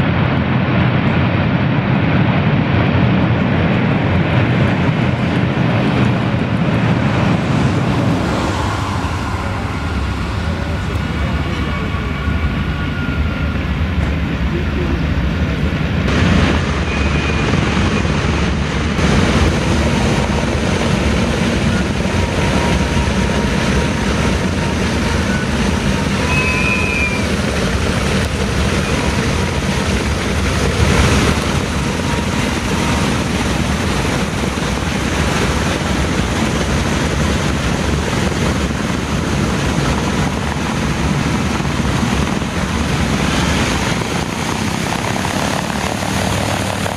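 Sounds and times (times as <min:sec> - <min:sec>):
propeller plane engines droning: 0:00.0 - 0:46.9.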